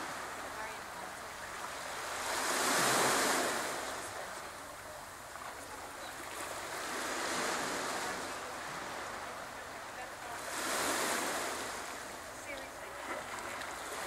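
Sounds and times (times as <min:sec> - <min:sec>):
waves washing onto pebble beach: 0:00.0 - 0:14.0.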